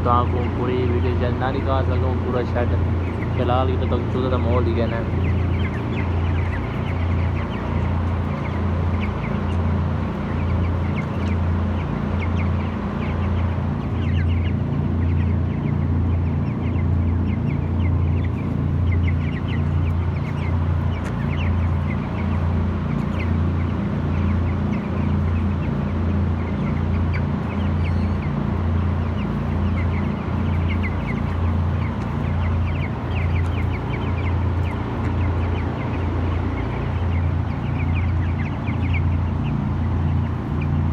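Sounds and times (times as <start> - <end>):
chicks peeping and chirping: 0.0 - 40.9
pulsing low machine hum: 0.0 - 40.9.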